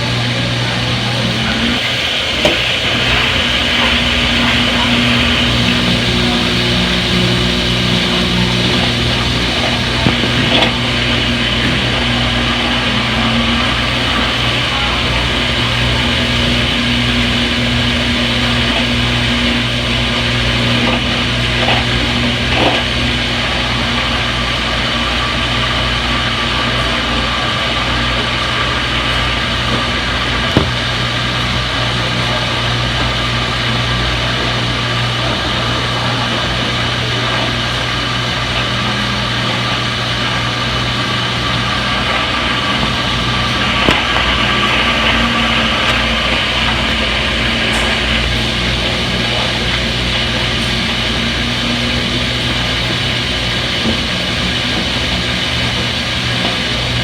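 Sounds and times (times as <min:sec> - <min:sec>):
washing machine motor whirring: 0:00.0 - 0:57.0.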